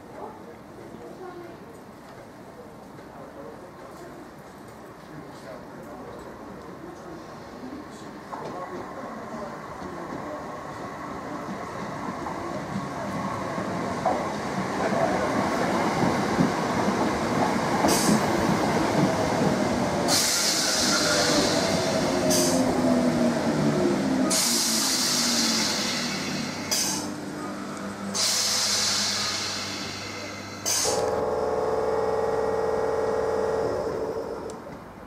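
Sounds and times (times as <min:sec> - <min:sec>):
train rumbling on rails: 0:06.2 - 0:35.0
falling whine of train: 0:06.5 - 0:35.0.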